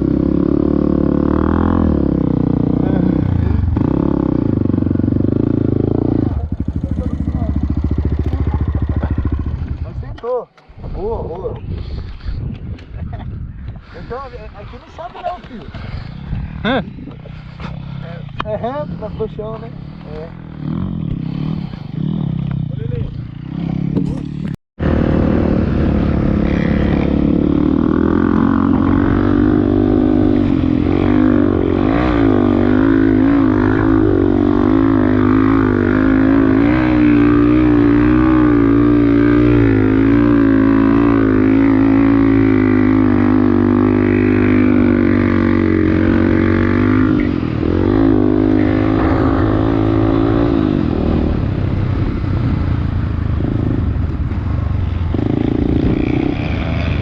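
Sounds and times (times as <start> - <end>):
off-road vehicle engine running: 0.0 - 12.4, 13.8 - 57.0.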